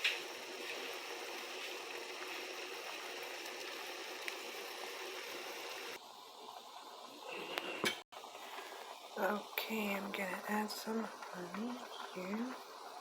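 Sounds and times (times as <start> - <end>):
pot of water boiling: 0.0 - 13.0.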